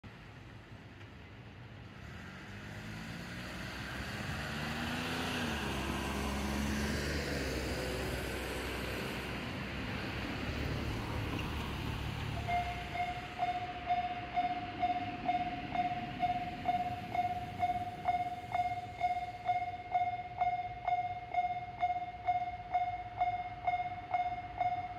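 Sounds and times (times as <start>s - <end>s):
cars passing on road: 1.4s - 24.9s.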